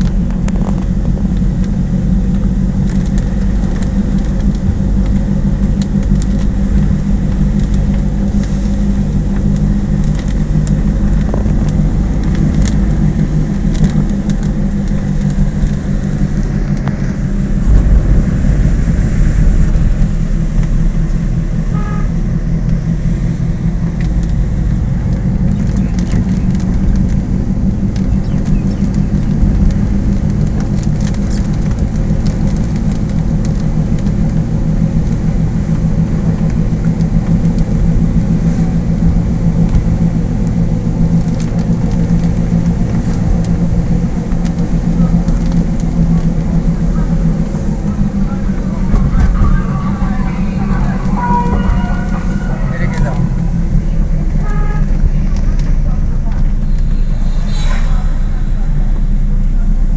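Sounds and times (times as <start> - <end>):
road noise: 0.0 - 59.9
vehicle engine drone: 0.0 - 59.9.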